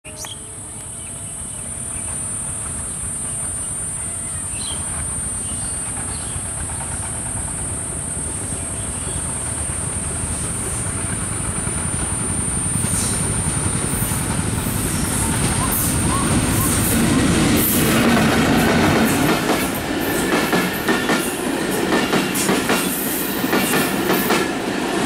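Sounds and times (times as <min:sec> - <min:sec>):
high-pitched whine: 0:00.1 - 0:21.0
diesel locomotive engine rumble: 0:00.1 - 0:25.0.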